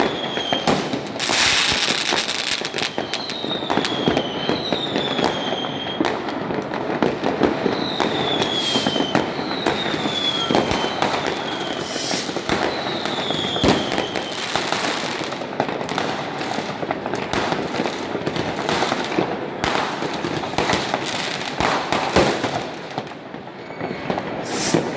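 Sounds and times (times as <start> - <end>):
fireworks bangs and crackles: 0.0 - 24.9
whistling fireworks: 0.0 - 24.9.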